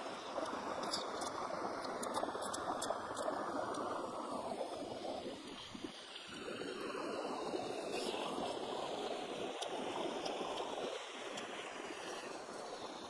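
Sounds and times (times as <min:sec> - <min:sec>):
stream running water: 0:00.0 - 0:13.0.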